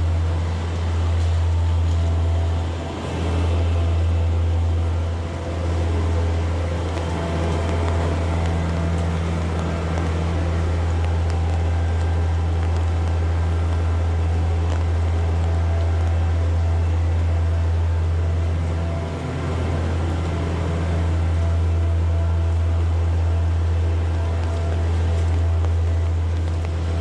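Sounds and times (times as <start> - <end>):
heavy rain hiss: 0.0 - 27.0
loud low mechanical hum: 0.0 - 27.0.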